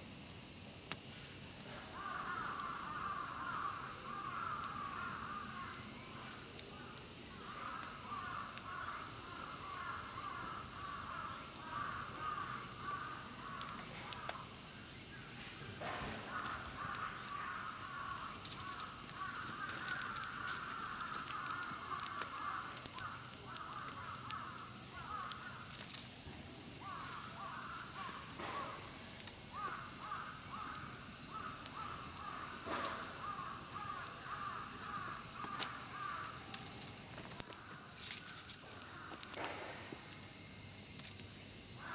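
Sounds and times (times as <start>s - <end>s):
insects shrilling: 0.0s - 41.9s.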